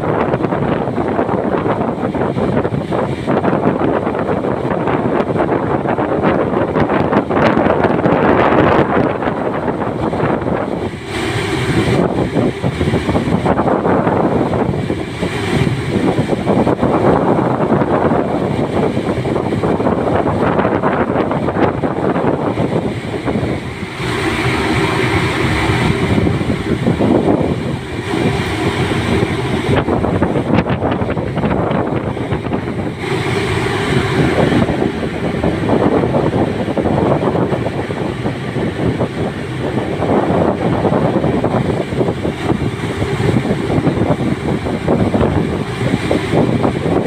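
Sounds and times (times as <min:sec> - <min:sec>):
sea water rushing along hull: 0:00.0 - 0:47.0
wind buffeting microphone: 0:00.0 - 0:47.0.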